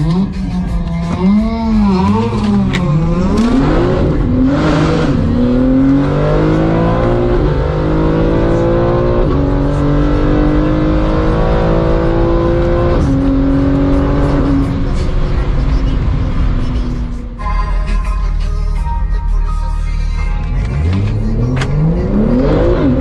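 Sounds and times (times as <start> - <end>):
car engine accelerating hard: 0.0 - 17.4, 20.4 - 23.0.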